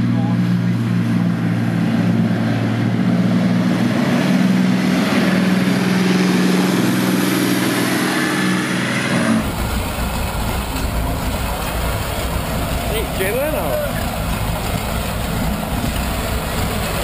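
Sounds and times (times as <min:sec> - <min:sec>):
tank diesel engine droning: 0:00.0 - 0:17.0
tank engine idling: 0:00.0 - 0:17.0.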